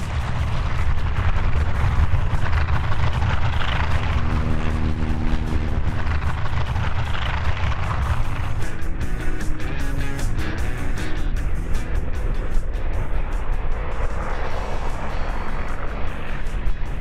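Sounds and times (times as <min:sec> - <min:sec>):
propeller aircraft engines rumbling: 0:00.0 - 0:17.0.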